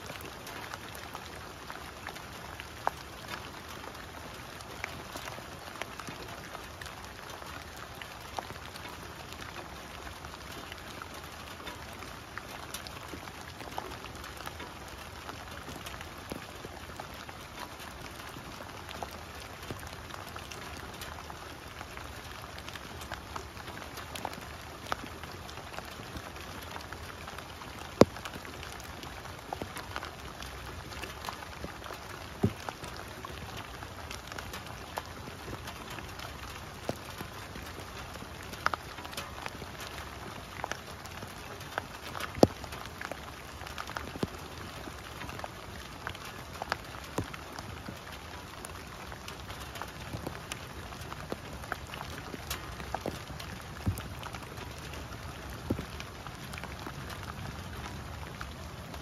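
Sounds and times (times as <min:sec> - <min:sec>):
rain falling on leaves and lawn: 0:00.0 - 0:59.0.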